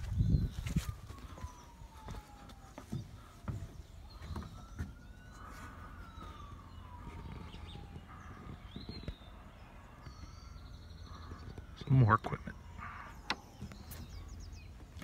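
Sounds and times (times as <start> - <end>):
distant siren wailing: 0.0 - 15.0.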